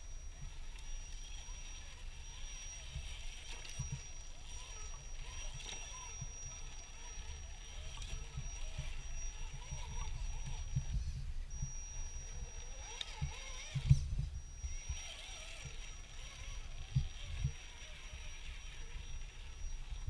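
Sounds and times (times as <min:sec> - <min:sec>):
toy truck motor whine: 0:00.0 - 0:20.0.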